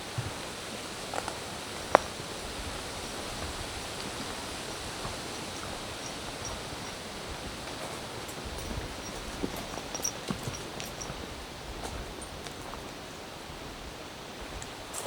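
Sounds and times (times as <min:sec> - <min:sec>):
forest ambience hiss: 0:00.0 - 0:15.0.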